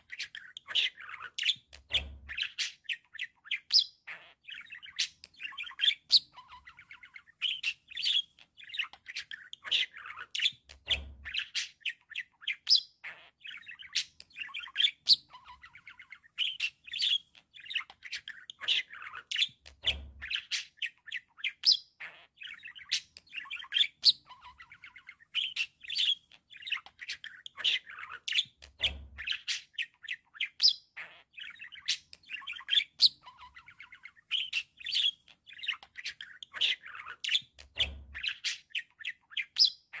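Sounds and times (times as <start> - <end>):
budgerigars warbling and chattering: 0.0 - 40.0.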